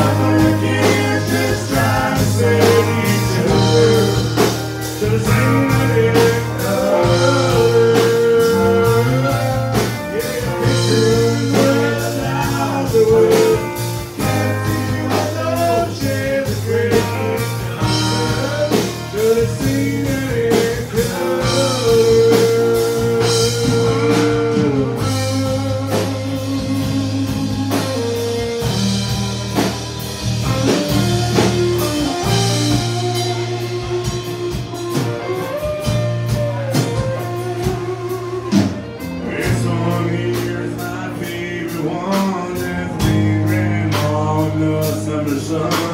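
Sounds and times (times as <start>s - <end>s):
drum kit: 0.0s - 45.9s
electric guitar lead: 0.0s - 45.9s.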